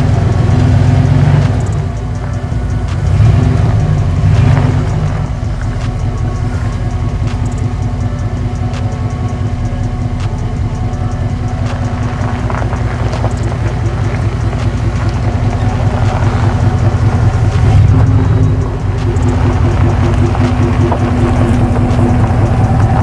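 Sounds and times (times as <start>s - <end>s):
pickup truck engine hum: 0.0s - 23.0s.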